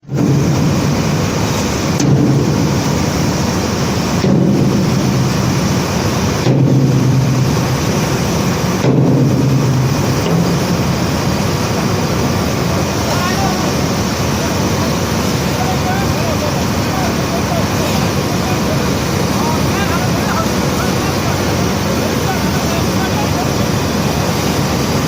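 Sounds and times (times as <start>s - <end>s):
conveyor belt rumbling: 0.0s - 25.0s.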